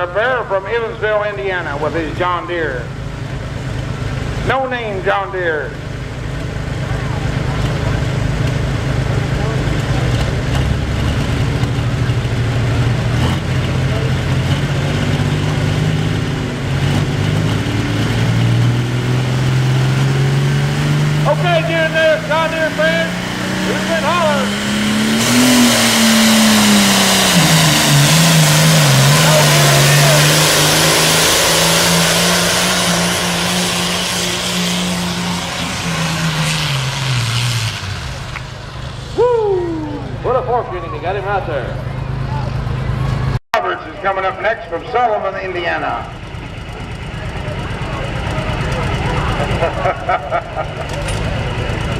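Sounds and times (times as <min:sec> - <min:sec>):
tractor engine running hard: 0:00.0 - 0:51.9.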